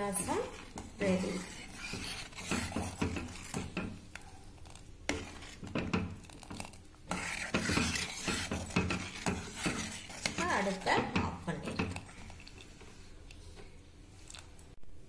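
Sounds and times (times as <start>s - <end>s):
ladle scraping and clinking in pot: 0.0s - 13.2s.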